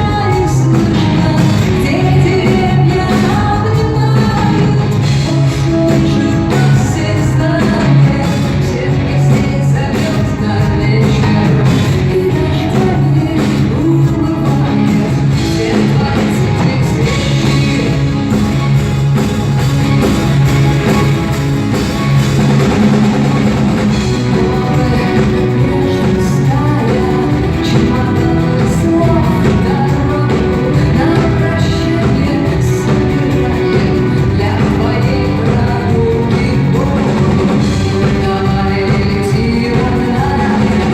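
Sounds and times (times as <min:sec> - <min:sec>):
person singing: 0:00.0 - 0:40.9
rock band playing live: 0:00.0 - 0:40.9.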